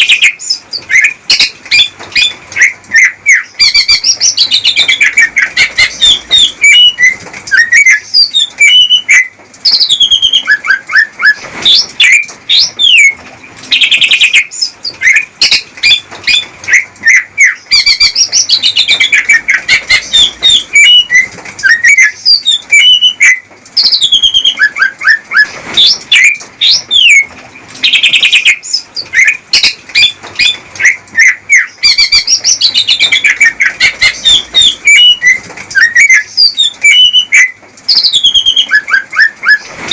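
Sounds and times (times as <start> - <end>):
bird singing chirps and trills: 0.0 - 39.9
buzzy rattling bird trill: 0.0 - 39.9.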